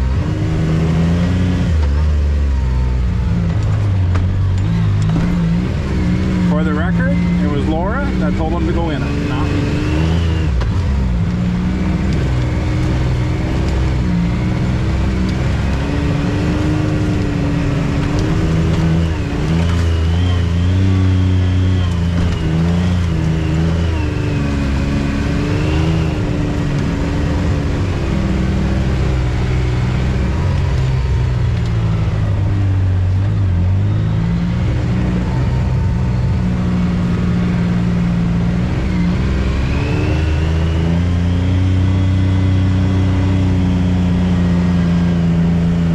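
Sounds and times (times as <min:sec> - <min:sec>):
off-road vehicle engine revving: 0:00.0 - 0:45.9.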